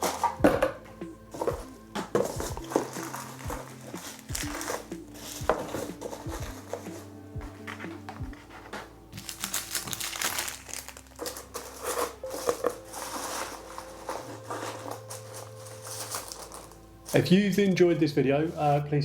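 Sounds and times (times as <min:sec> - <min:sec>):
packaging crinkling and rustling: 0:01.3 - 0:18.8.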